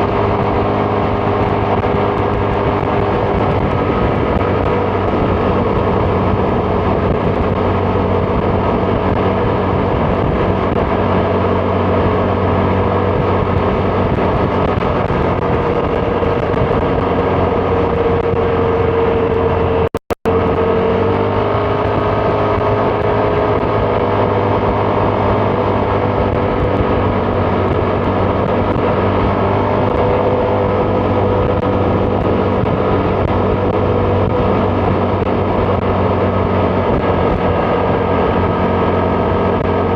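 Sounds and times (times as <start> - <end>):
scooter engine running: 0.0 - 39.9
wind noise: 0.0 - 39.9.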